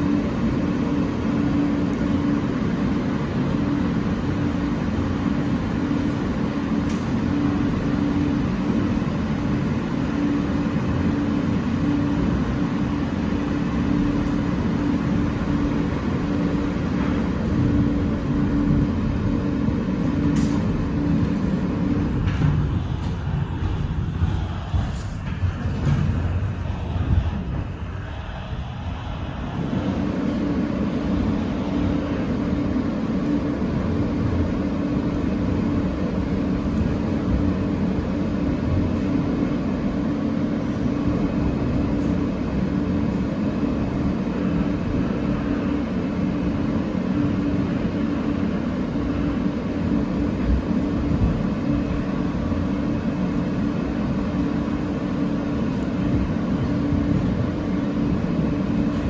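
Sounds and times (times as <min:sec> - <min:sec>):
constant hum: 0:00.0 - 0:59.0
subway wheels rumbling on rails: 0:00.0 - 0:59.0.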